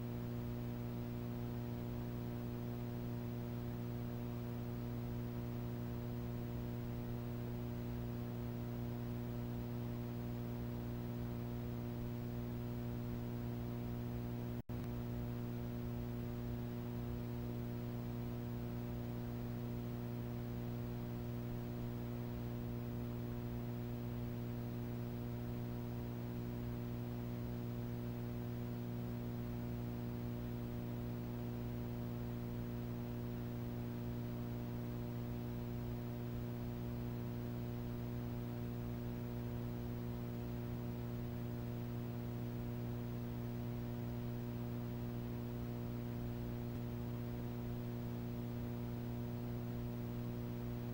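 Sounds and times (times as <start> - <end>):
electrical mains hum: 0.0 - 50.9.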